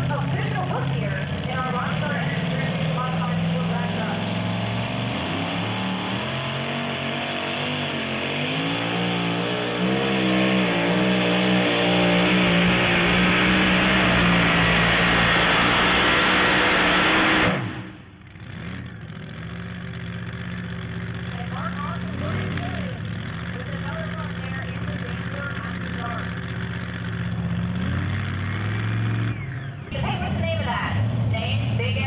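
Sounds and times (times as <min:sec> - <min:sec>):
engine idling: 0:00.0 - 0:32.0
truck engine at full throttle: 0:00.0 - 0:32.0.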